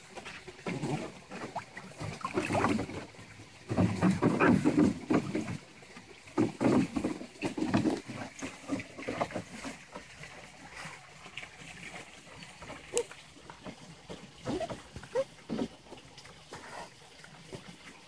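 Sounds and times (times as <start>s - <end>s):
dog sloshing water: 0.0s - 18.0s.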